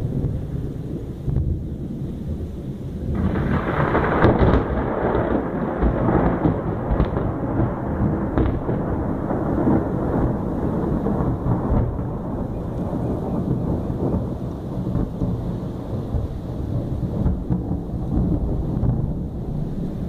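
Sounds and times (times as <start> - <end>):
thunderstorm rumble: 0.0 - 20.0.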